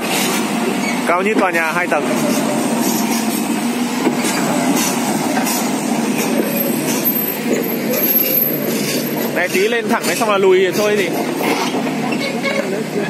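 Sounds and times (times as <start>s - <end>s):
excavator engine and hydraulics drone: 0.0s - 13.0s.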